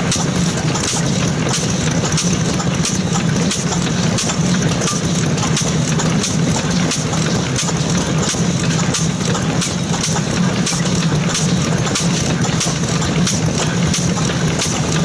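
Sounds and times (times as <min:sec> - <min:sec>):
engine chugging slowly: 0:00.0 - 0:15.0.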